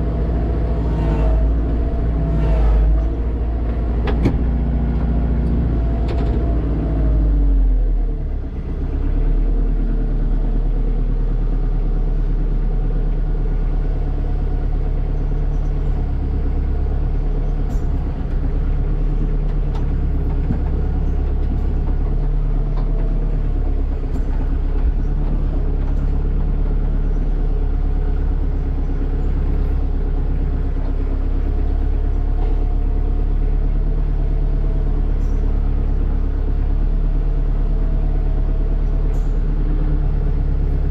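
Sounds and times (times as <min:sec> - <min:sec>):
tractor diesel engine rumble: 0:00.0 - 0:40.9.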